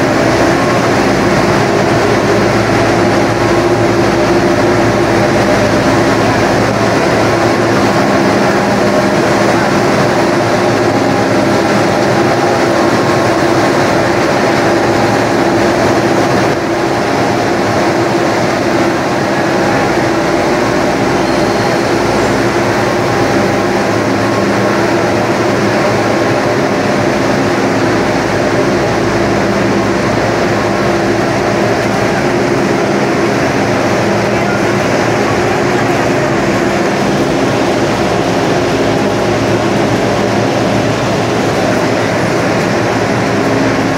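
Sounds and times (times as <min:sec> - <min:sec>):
loud machine hum: 0:00.0 - 0:43.9.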